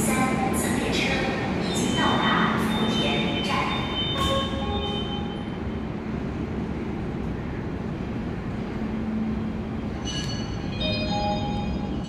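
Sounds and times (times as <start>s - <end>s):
electric train low rumble: 0.0s - 12.0s.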